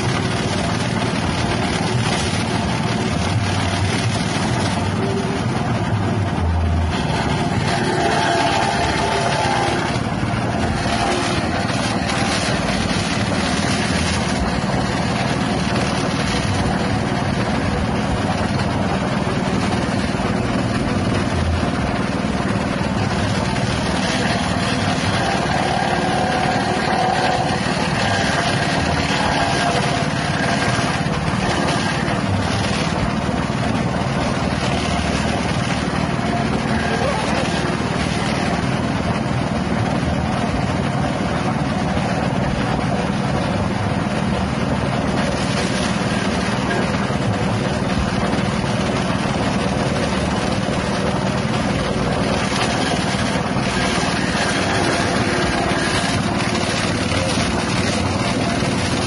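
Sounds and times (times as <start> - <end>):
grass chopper engine running: 0.0 - 59.0.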